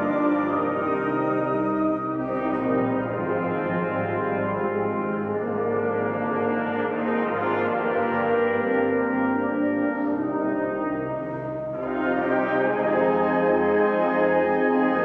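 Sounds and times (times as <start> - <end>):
wind band playing chords: 0.0 - 15.0.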